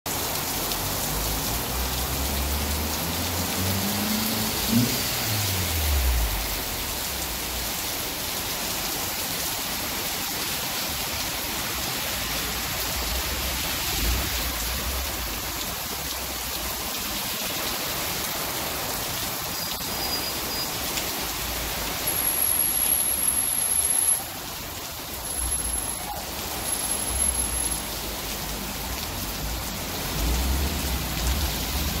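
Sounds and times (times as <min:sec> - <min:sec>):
heavy rain on pavement: 0:00.1 - 0:32.0
car driving through water: 0:00.2 - 0:08.7, 0:12.2 - 0:32.0.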